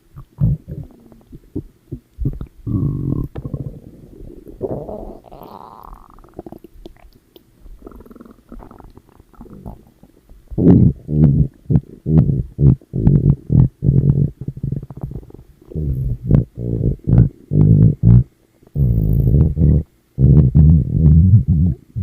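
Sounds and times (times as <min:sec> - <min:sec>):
stomach growling: 0:00.2 - 0:22.0.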